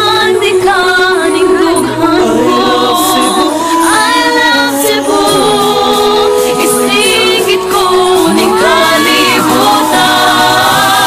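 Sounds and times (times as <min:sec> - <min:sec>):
song with female vocals: 0:00.0 - 0:11.0.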